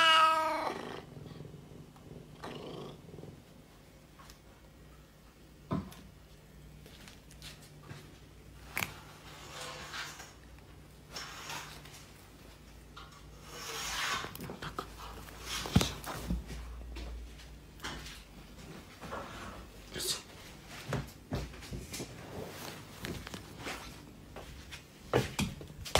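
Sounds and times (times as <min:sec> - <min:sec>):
faint low hum: 0:00.0 - 0:25.9.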